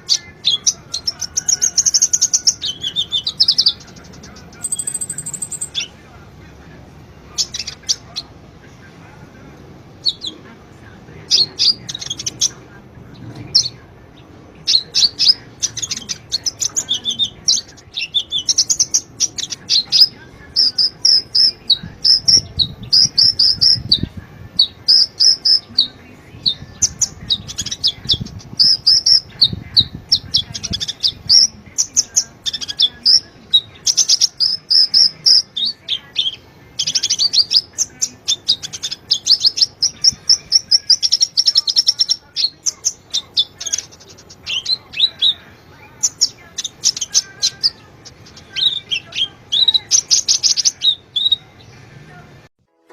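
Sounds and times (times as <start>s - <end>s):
sunbird chirping and trilling: 0.0s - 6.0s, 13.5s - 51.7s.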